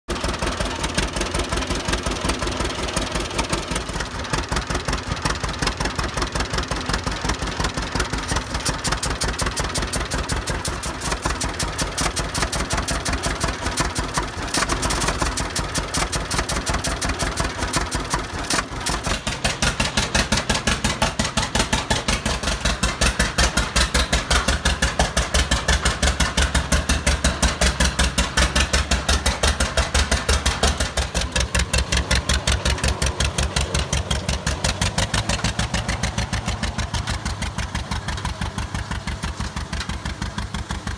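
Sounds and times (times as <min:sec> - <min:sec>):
tractor engine idling: 0:00.1 - 0:40.9.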